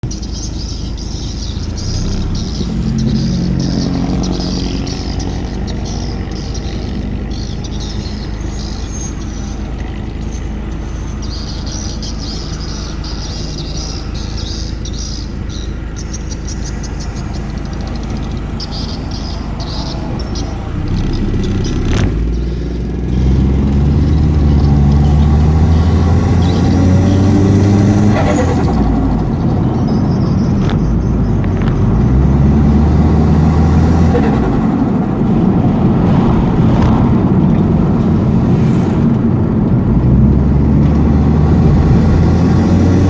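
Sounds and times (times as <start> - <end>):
car engine running and revving: 0.0 - 43.0.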